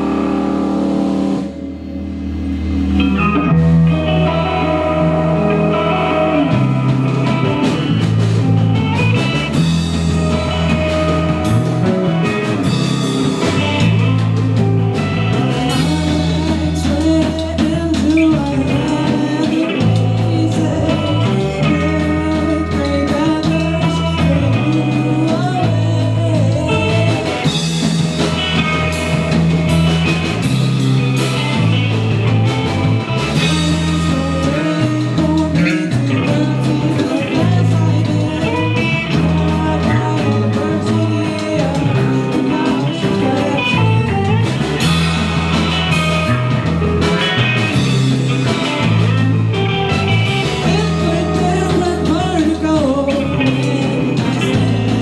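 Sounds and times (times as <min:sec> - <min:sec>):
bass line: 0:00.0 - 0:55.0
drum kit: 0:00.0 - 0:55.0
electric guitar: 0:00.0 - 0:55.0
person singing: 0:02.7 - 0:30.5, 0:33.0 - 0:55.0.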